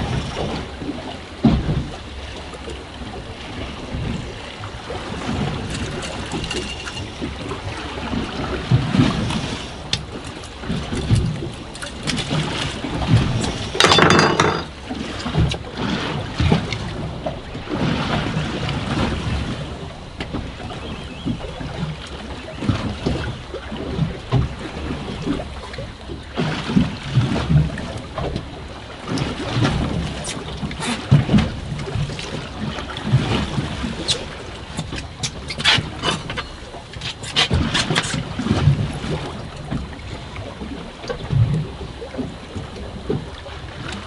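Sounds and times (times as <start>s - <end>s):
choppy water slapping boat: 0.0s - 44.0s.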